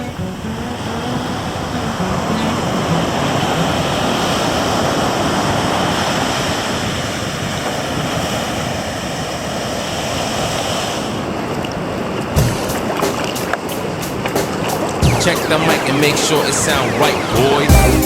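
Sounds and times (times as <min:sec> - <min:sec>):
ocean surf breaking: 0:00.0 - 0:17.9.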